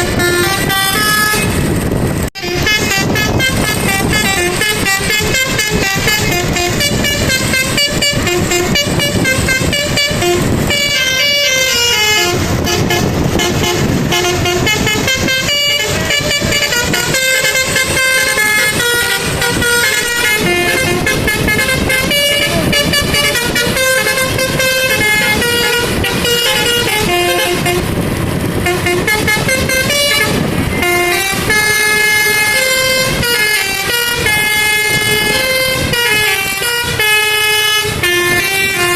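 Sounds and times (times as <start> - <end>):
musical air horn playing a tune: 0.0 - 1.7, 2.4 - 38.9
vehicle engine rumbling: 0.0 - 38.9.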